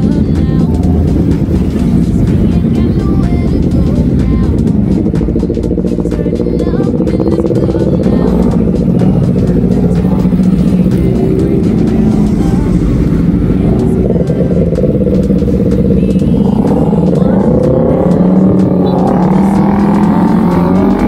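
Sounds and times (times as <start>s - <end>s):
motorcycle engines revving: 0.0s - 21.0s
music playing: 0.0s - 21.0s.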